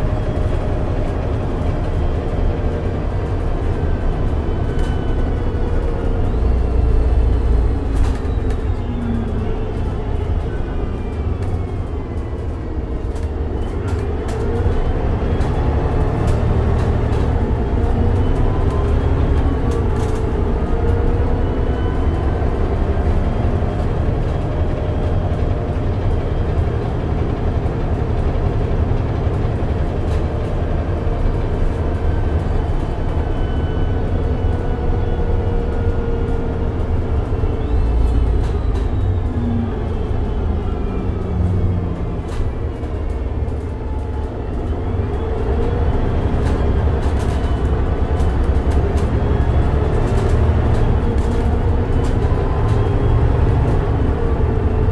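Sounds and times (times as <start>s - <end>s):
bus engine rumble: 0.0s - 54.9s.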